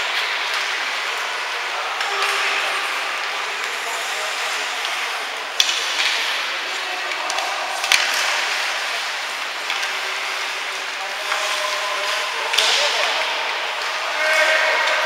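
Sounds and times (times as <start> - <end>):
hockey sticks and puck knocking boards: 0.0 - 15.0
hubbub of voices: 0.0 - 15.0.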